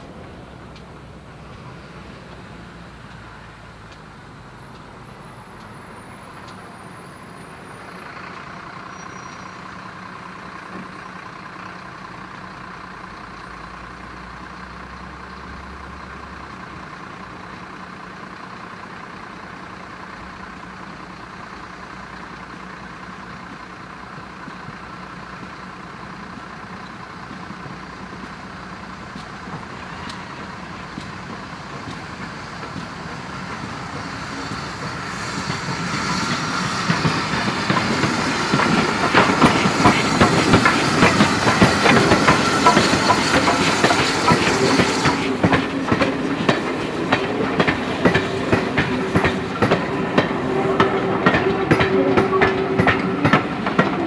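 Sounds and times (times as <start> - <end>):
steam locomotive rumble and hiss: 0.0 - 54.0.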